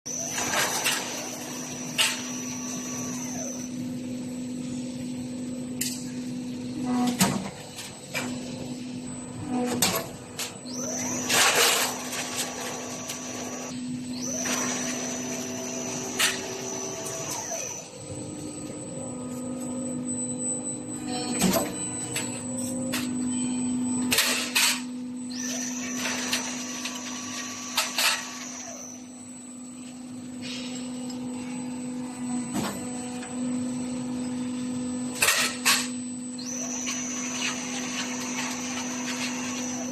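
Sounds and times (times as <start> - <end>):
high machine whine: 0.1 - 39.9
machine motor hum: 0.1 - 39.9.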